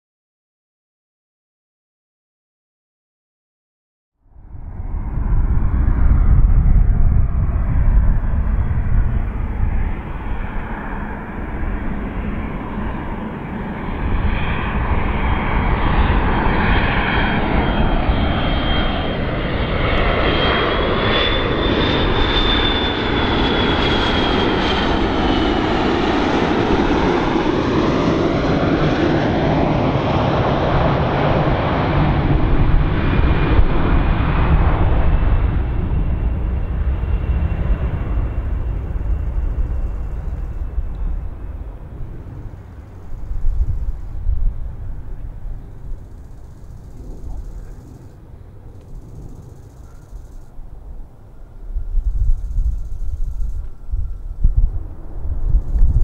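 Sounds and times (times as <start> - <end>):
jet airliner rumble and whine: 4.2 - 56.0.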